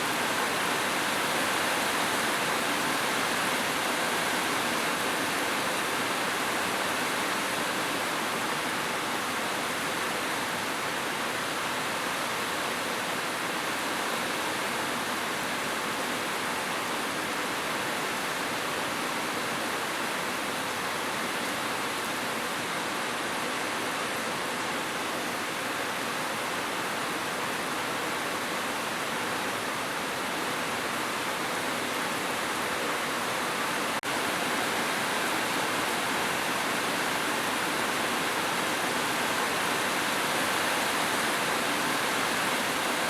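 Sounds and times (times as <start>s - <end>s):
heavy rain on a roof: 0.0s - 43.0s.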